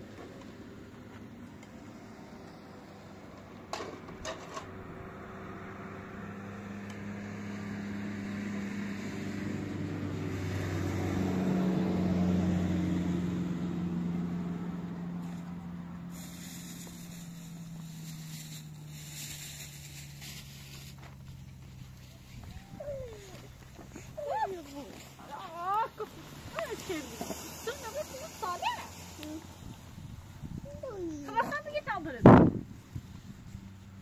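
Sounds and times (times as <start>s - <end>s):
vehicle engine passing: 0.0s - 34.0s.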